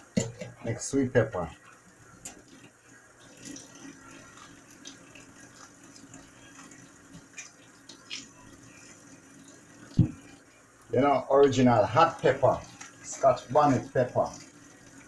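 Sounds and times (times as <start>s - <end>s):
faucet running into steel sink: 1.6s - 15.0s.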